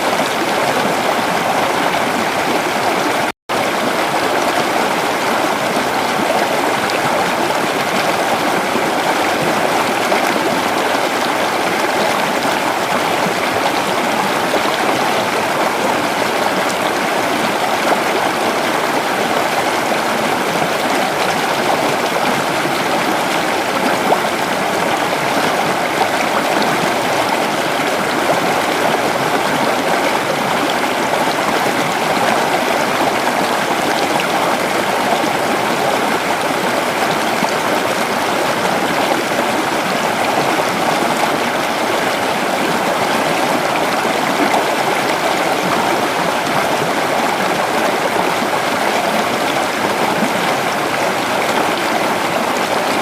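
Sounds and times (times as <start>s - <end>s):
creek water running over rocks: 0.0s - 53.0s.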